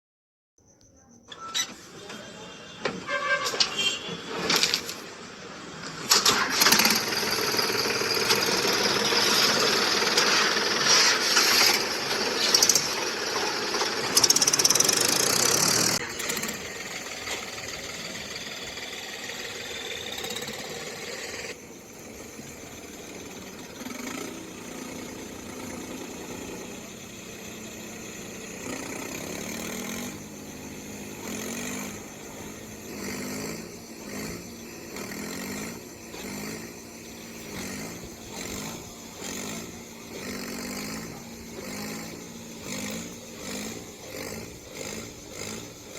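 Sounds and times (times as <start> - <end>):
toy tractor motor and gears: 1.2 - 45.9.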